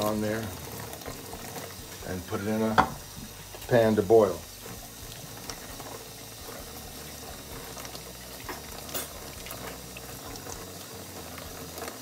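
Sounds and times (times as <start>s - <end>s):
tap water splashing into sink: 0.0s - 6.2s, 6.9s - 10.8s.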